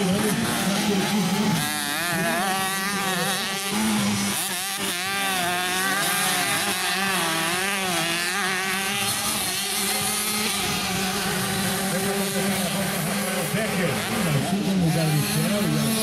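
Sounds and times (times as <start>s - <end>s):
motocross bikes revving: 0.0s - 16.0s
steady engine drone: 0.0s - 16.0s.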